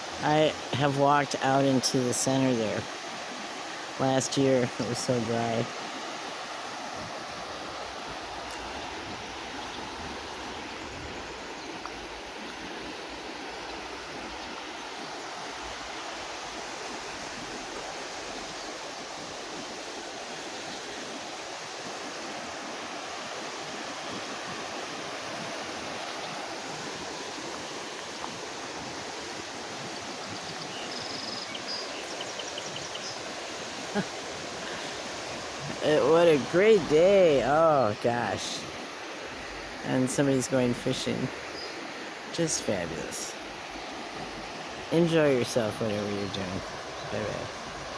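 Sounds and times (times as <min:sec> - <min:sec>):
river rushing: 0:00.0 - 0:47.9.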